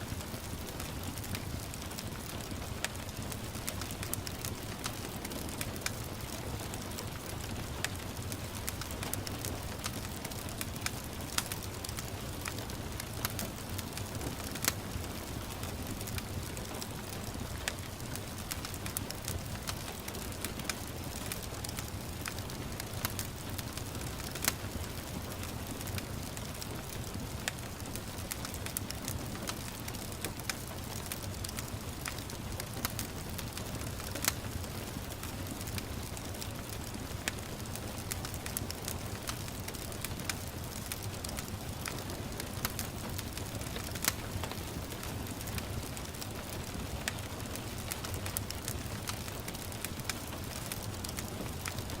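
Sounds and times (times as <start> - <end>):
gentle rain patter: 0.0 - 52.0
wood fire crackling: 0.1 - 52.0.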